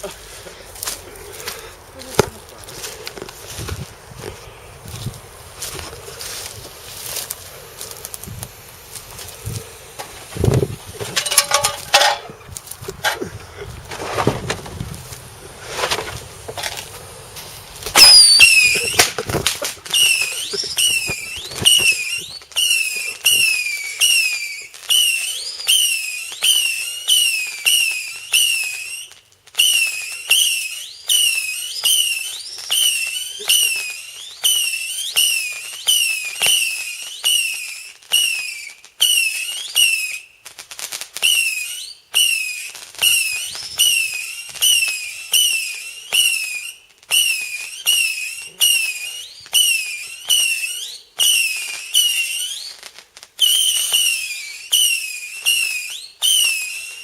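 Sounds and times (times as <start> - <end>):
whistle firework sputtering whistles: 2.1 - 57.0.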